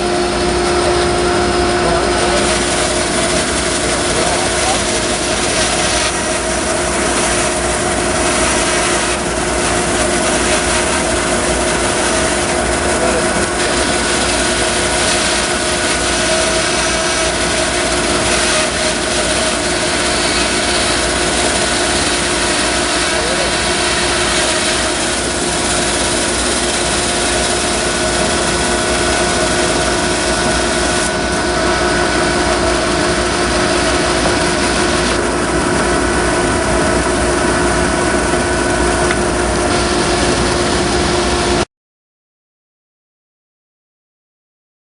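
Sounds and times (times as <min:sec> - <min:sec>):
bandsaw cutting log: 0:00.0 - 0:41.6.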